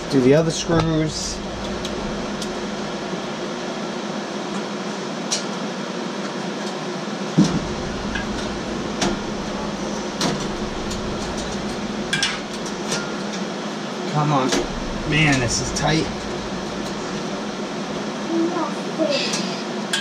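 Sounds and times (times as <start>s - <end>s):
fans humming: 0.0s - 20.0s.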